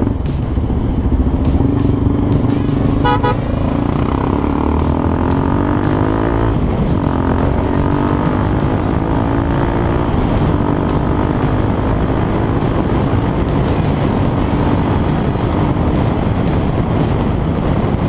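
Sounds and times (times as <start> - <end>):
motorcycle engine revving: 0.0 - 18.0
wind rushing over microphone: 0.0 - 18.0.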